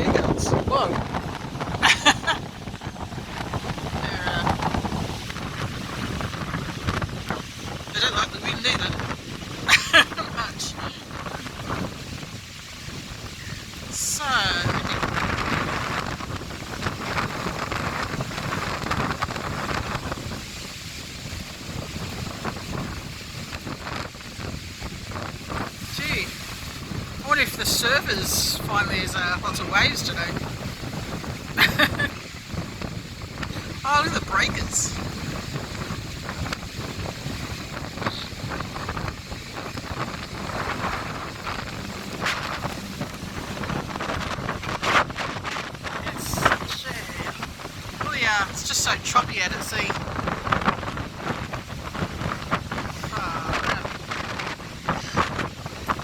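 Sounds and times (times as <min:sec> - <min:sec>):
gusty wind buffeting microphone: 0:00.0 - 0:56.0
waves breaking: 0:00.0 - 0:56.0.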